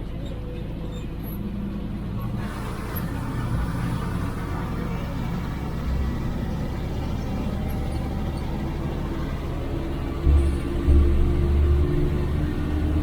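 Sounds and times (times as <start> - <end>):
diesel truck engine rumble: 0.0 - 13.0.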